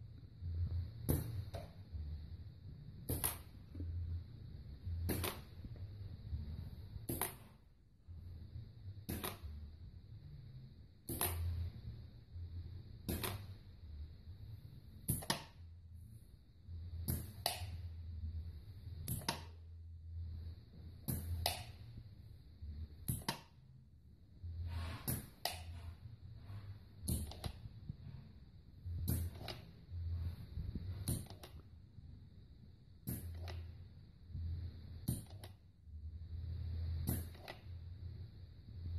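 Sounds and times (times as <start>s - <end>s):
low hum: 0.0s - 7.1s, 7.9s - 38.9s.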